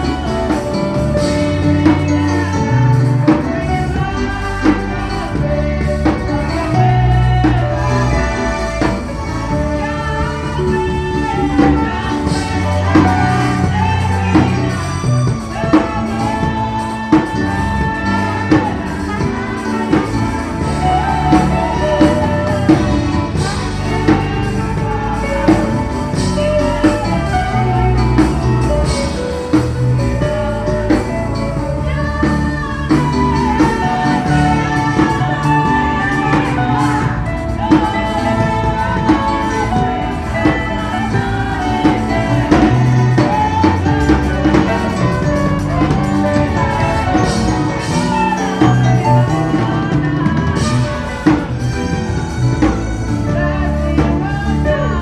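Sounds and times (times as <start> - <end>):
choir singing gospel with band: 0.0 - 55.0
drums keeping steady beat: 0.0 - 55.0.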